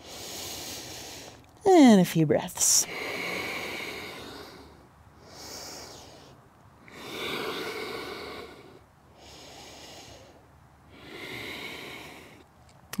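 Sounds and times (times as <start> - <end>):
woman breathing slowly: 0.0 - 1.5, 2.8 - 12.6.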